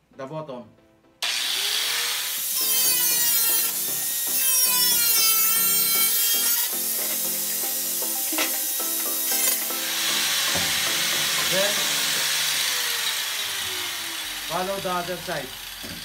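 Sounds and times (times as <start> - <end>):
angle grinder cutting steel: 1.2 - 16.0.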